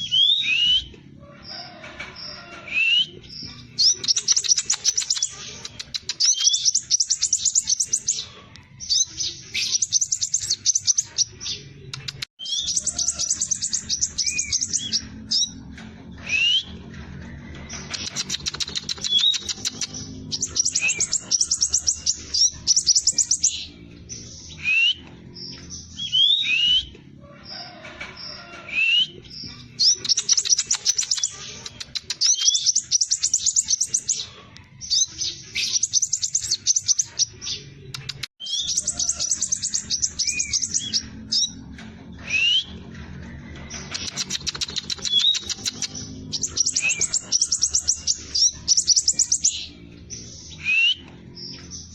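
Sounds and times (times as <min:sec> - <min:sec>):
bird chattering trills: 0:02.8 - 0:16.9, 0:17.6 - 0:26.9, 0:29.0 - 0:41.6, 0:43.7 - 0:51.9.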